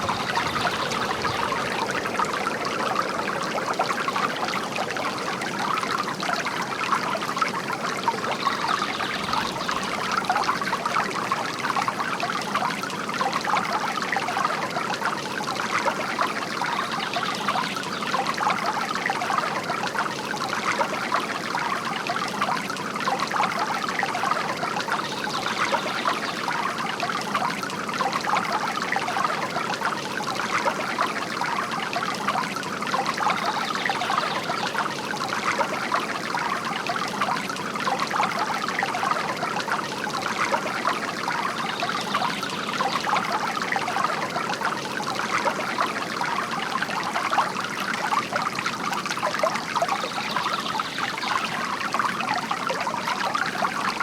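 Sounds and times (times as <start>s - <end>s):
water trickling from fountain: 0.0s - 54.0s.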